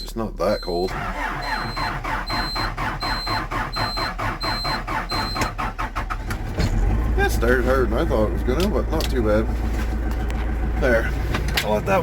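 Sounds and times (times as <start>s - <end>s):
diesel engine cranking: 0.7s - 12.0s
diesel engine running: 0.9s - 12.0s.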